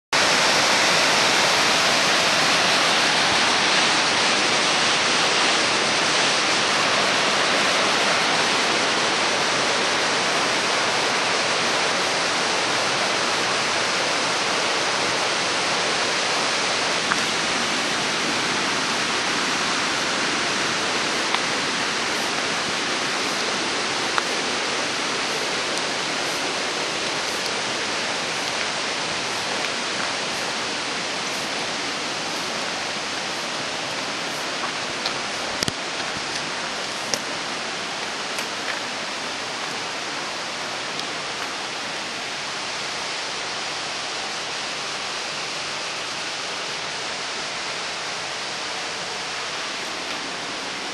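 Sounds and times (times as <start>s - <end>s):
distant waterfall rushing: 0.2s - 50.9s.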